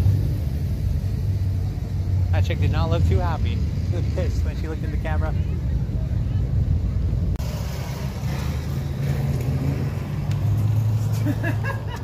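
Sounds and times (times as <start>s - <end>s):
car engine exhaust drone: 0.0s - 12.0s.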